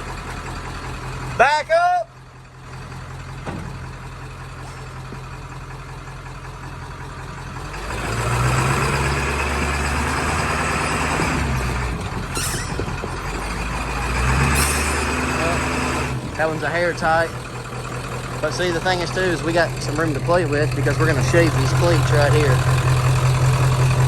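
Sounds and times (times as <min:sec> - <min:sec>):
pickup truck engine running: 0:00.0 - 0:24.0.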